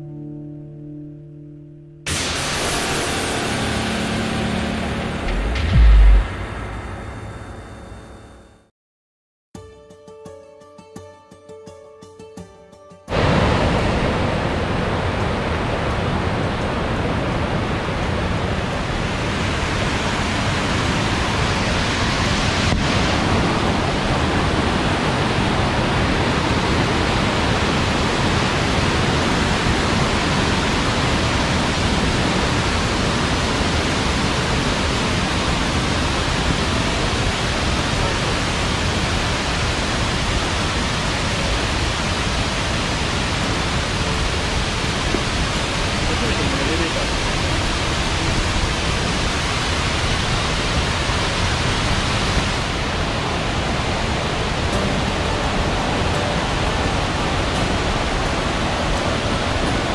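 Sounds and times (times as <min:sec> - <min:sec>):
waterfall rushing: 0:02.1 - 0:07.6, 0:13.1 - 0:59.9.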